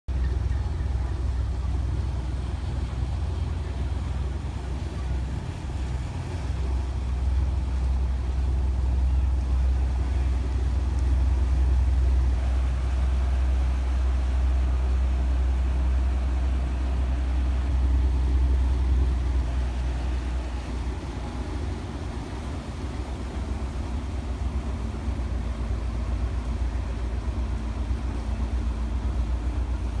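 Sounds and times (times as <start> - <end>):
boat engines droning: 0.1 - 30.0.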